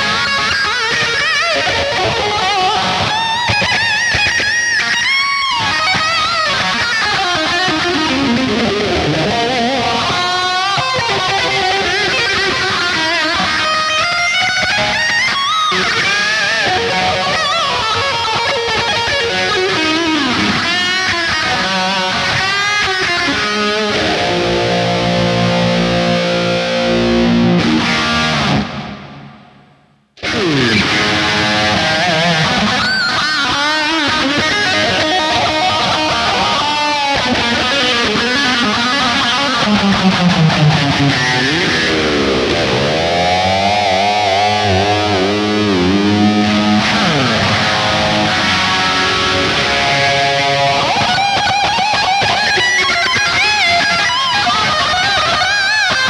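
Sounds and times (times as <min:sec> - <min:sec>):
electric guitar lead runs: 0:00.0 - 0:29.6, 0:30.2 - 0:56.0
low electric guitar riff: 0:00.0 - 0:56.0.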